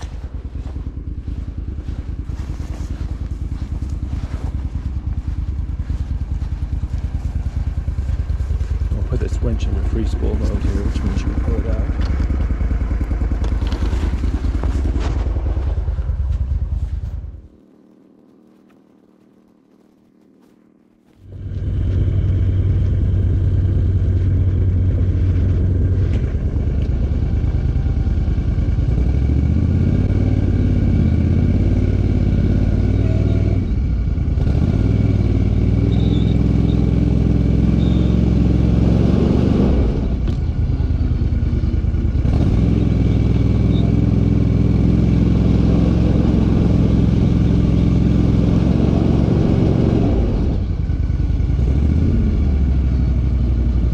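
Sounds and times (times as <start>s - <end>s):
vehicle engine running under load: 0.0s - 53.9s.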